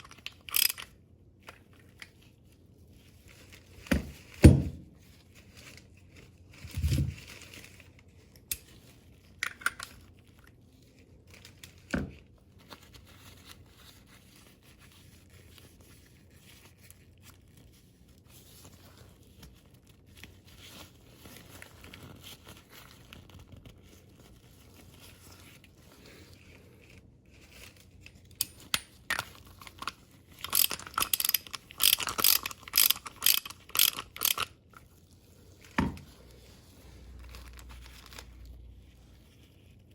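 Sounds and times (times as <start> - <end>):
crinkling and scraping: 0.0 - 39.9.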